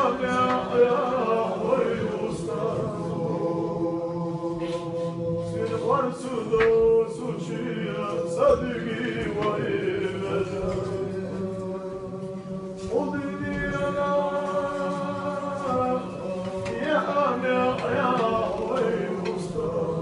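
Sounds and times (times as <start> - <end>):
low held vocal drone: 0.0 - 20.0
men chanting devotional song: 0.0 - 20.0.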